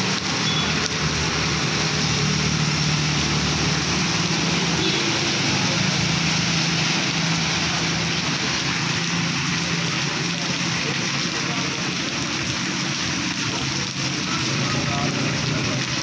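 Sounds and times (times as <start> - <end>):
heavy rain on pavement: 0.0 - 16.0
traffic engine hum: 0.0 - 16.0.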